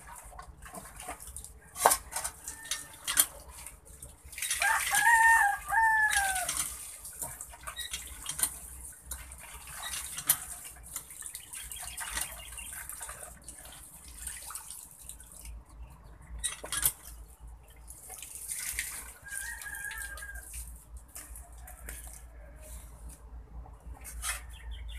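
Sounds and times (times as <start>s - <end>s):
hands washing in water: 0.0s - 22.3s.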